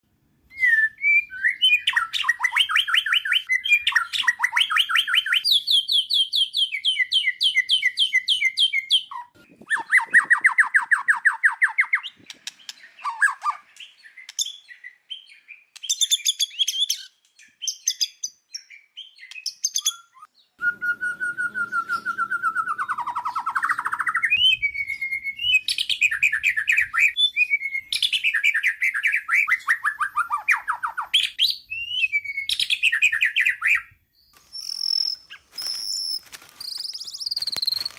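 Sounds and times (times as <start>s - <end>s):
songbird singing: 0.5s - 37.9s.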